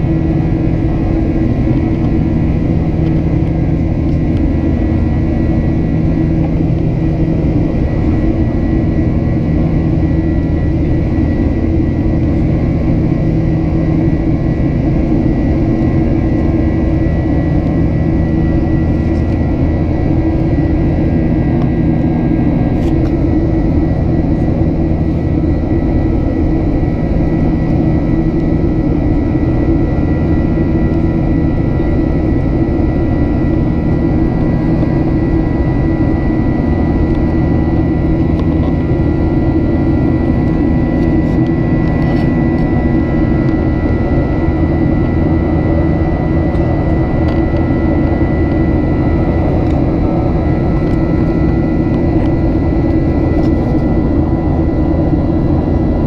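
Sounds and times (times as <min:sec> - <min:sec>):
jet engine and air rumble: 0:00.0 - 0:56.0
thin steady whine: 0:00.0 - 0:56.0.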